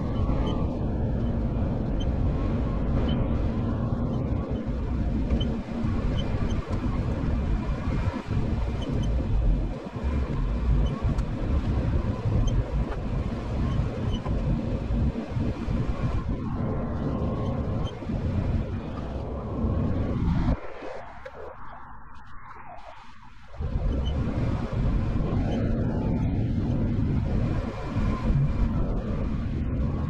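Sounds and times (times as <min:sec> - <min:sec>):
off-road vehicle engine rumble: 0:00.0 - 0:20.6, 0:23.6 - 0:30.0.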